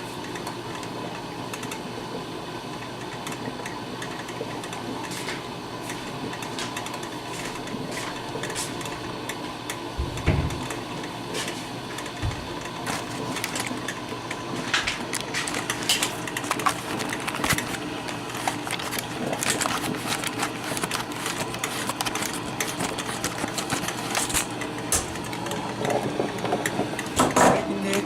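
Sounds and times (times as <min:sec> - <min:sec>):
coffee maker sputtering and gurgling: 0:00.0 - 0:28.0
steady hum: 0:00.0 - 0:28.0.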